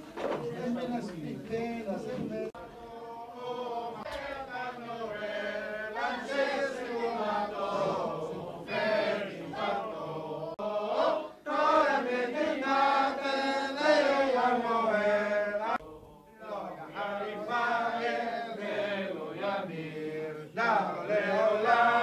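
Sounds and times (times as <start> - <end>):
men chanting prayers: 0.2 - 22.0.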